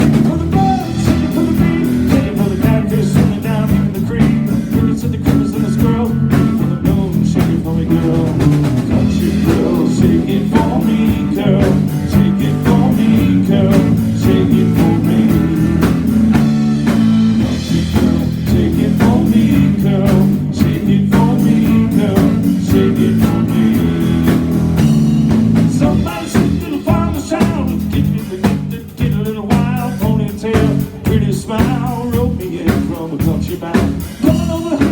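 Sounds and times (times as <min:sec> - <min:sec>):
country blues band playing: 0:00.0 - 0:34.9.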